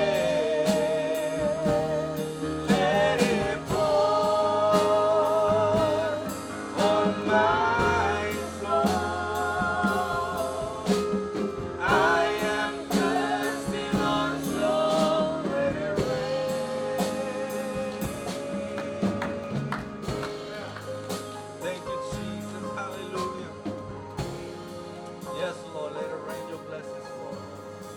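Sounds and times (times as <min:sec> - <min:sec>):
gospel singing with band: 0:00.0 - 0:27.9.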